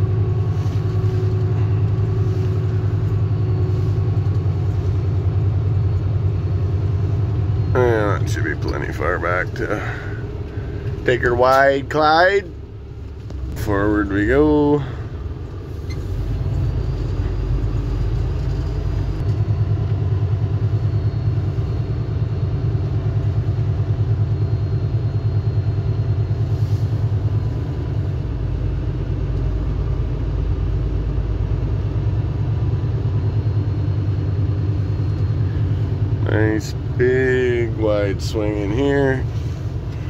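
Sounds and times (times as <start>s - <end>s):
truck diesel engine rumbling: 0.0s - 40.0s.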